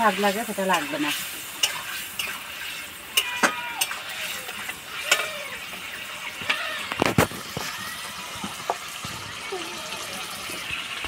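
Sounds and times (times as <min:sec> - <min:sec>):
metal ladle scraping a metal pan: 0:00.0 - 0:09.0.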